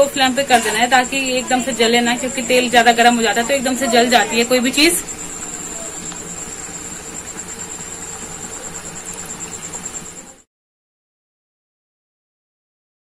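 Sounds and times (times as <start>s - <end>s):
dough deep-frying in oil: 0.0s - 10.5s
high-pitched whine: 0.0s - 10.5s.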